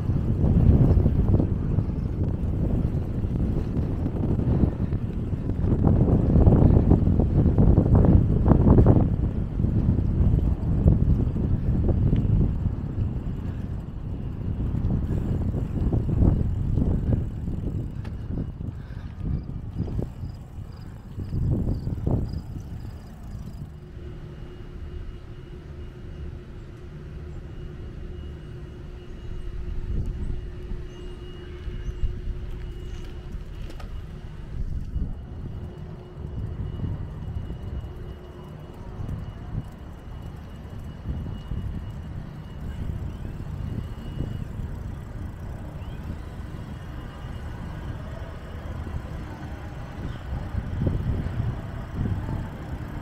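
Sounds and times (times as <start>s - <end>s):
distant road traffic: 0.0s - 53.0s
faint steady hum: 0.0s - 53.0s.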